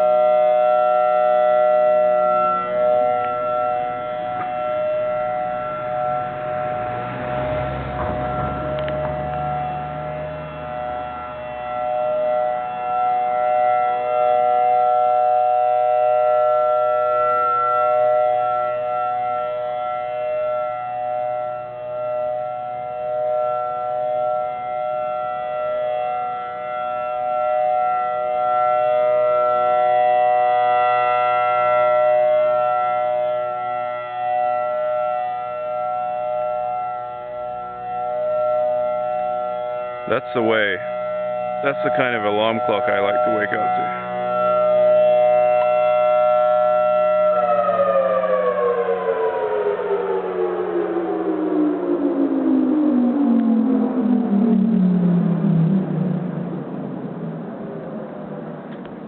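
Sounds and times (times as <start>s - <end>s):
civil defense siren steady tone: 0.0s - 59.0s.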